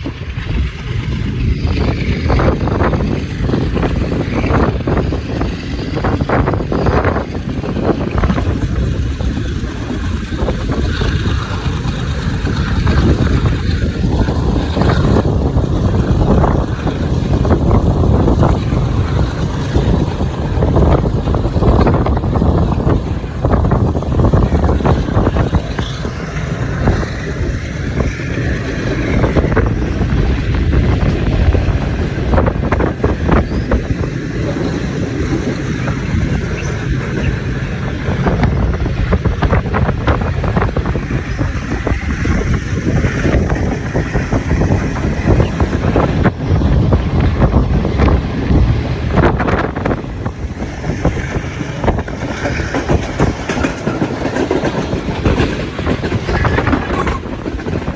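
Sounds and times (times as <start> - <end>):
passenger train rumbling: 0.0 - 57.9
wind buffeting microphone: 0.0 - 57.9.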